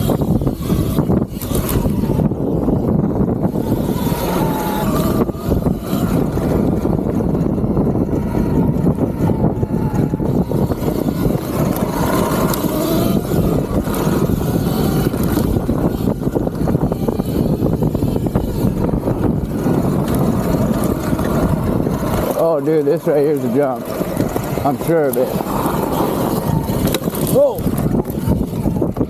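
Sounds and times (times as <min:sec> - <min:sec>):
electric motor whine: 0:00.0 - 0:29.0
tyre and chassis noise: 0:00.0 - 0:29.0
wind rushing: 0:00.0 - 0:29.0.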